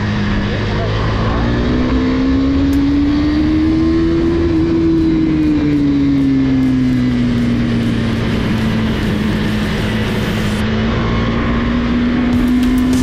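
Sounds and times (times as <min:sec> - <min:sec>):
motorcycle engine running: 0:00.0 - 0:13.0
wind rush: 0:02.5 - 0:13.0.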